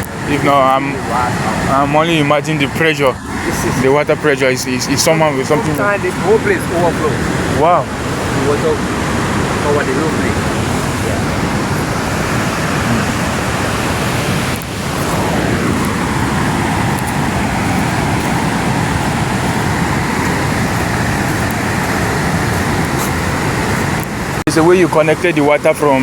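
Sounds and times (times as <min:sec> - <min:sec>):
roar of fast-flowing waterfall: 0:00.0 - 0:26.0.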